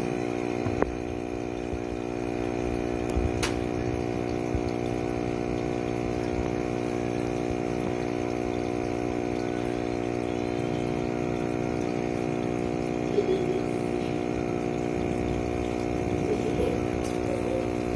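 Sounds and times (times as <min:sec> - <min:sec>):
steady mechanical hum: 0:00.0 - 0:17.9.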